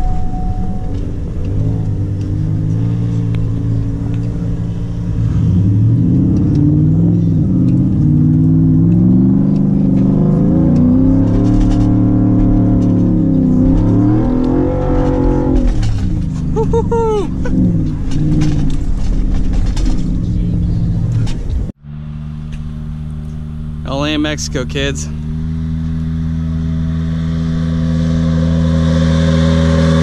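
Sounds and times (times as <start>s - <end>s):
road and tyre noise: 0.0s - 30.0s
truck engine revving: 0.0s - 30.0s.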